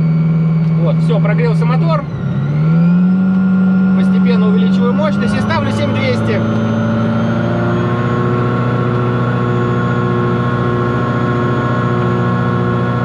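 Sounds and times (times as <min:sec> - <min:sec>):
rotary aircraft engine running: 0:00.0 - 0:13.0.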